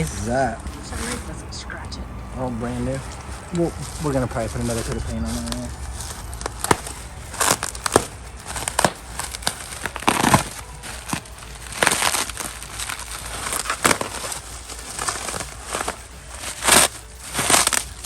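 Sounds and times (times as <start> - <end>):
packaging crinkling: 2.4 - 18.0.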